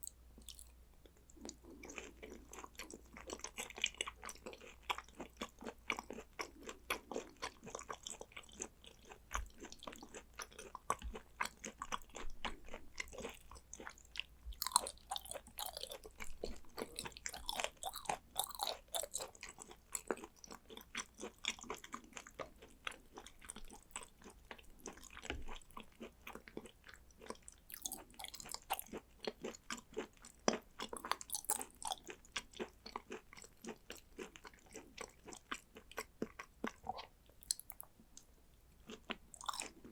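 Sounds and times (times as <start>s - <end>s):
wet chewing mouth clicks: 0.0s - 38.3s.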